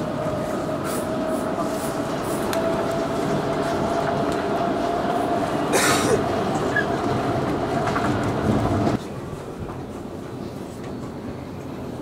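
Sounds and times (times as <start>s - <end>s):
train wheels rumbling on track: 0.0s - 12.0s
train whine: 0.0s - 12.0s.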